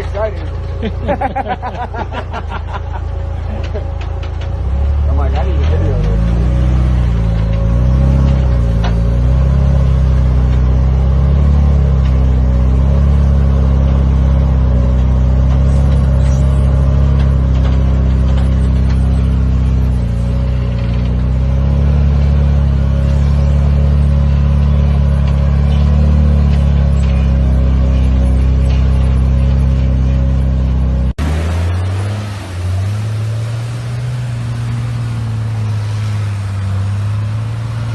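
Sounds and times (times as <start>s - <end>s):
off-road vehicle engine running hard: 0.0s - 37.9s.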